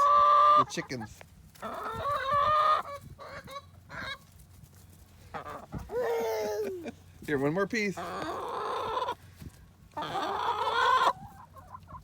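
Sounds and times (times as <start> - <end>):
chickens squawking: 0.0 - 4.3, 5.2 - 7.1, 8.0 - 12.0.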